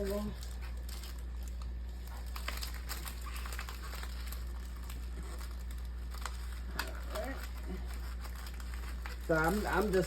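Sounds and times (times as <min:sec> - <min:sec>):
paper wrapper crinkling: 0:00.0 - 0:10.0
steady low hum: 0:00.0 - 0:10.0.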